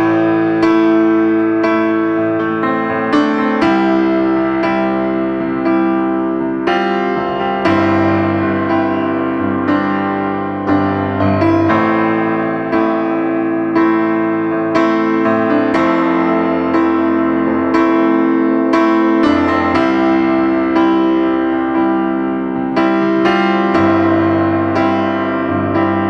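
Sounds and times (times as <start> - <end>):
slow soft piano chords: 0.0 - 26.0.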